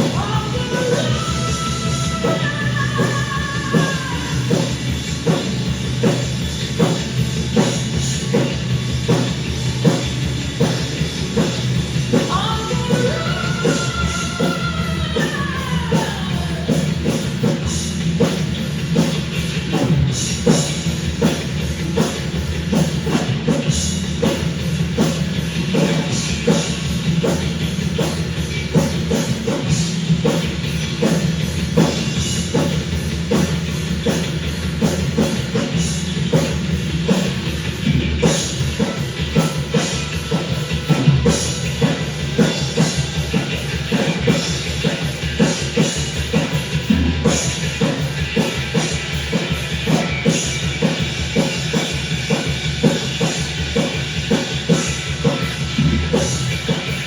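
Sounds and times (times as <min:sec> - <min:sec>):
drum kit beat: 0:00.0 - 0:57.0
loud rock music: 0:00.0 - 0:57.0.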